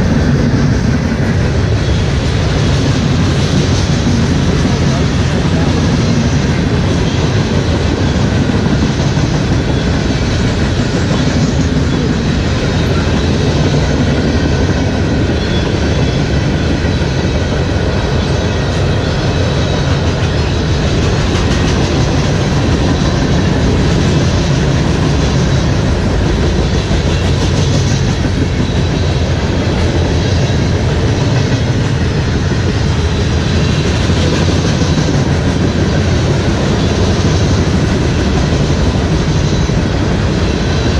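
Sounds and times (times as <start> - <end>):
freight train rumbling: 0.0 - 40.9.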